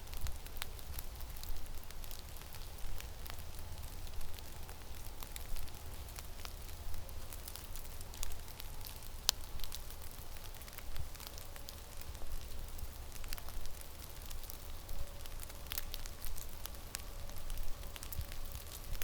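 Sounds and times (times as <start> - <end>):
sharp crackling ticks: 0.1 - 19.0.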